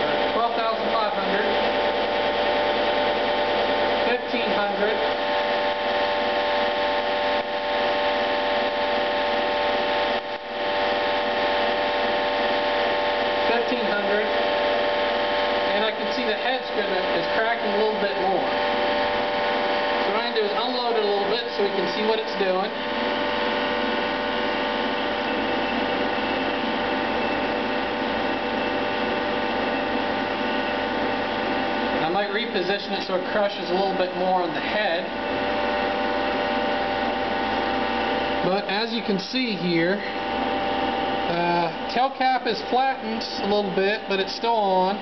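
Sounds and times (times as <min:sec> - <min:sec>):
hydraulic pump motor humming: 0:00.0 - 0:45.0.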